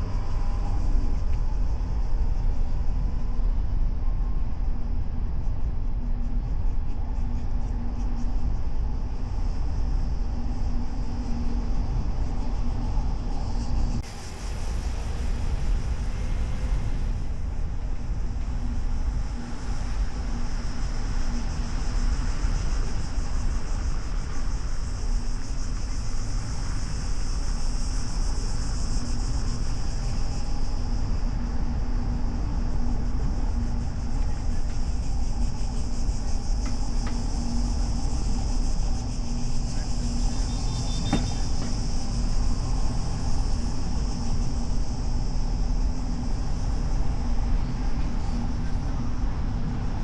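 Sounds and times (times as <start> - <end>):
road and wind rumble: 0.0 - 50.0.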